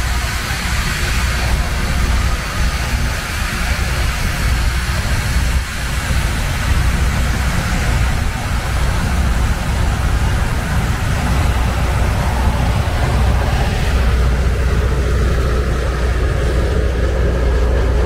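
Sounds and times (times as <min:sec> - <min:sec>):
rail grinder hissing and rumbling: 0:00.0 - 0:18.0.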